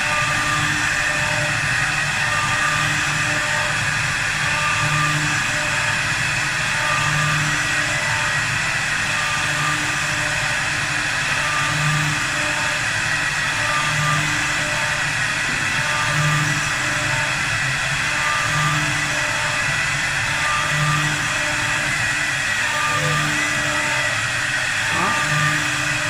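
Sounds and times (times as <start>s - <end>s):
wood lathe cutting: 0.0s - 26.0s.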